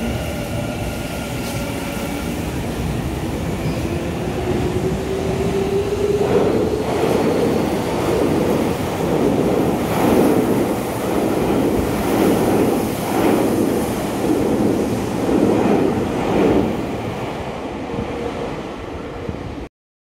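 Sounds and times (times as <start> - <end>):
electric train rushing past: 0.0 - 19.6.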